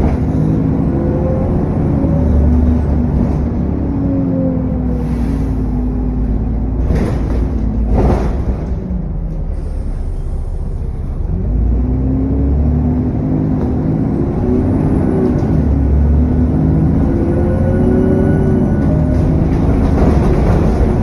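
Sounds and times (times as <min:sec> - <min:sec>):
bus diesel engine: 0:00.0 - 0:21.0.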